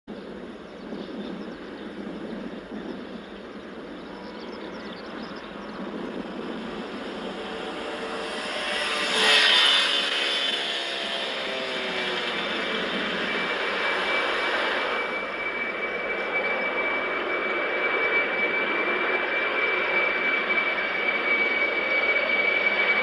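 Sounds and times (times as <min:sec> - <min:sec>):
jet aircraft passing: 0:00.1 - 0:23.0.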